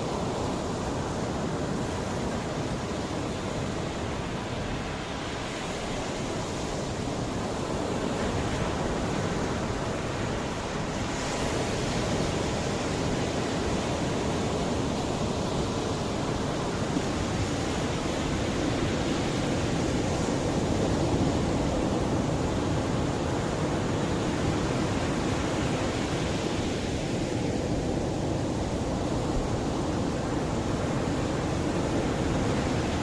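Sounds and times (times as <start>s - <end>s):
sea waves washing onto beach: 0.0s - 33.0s.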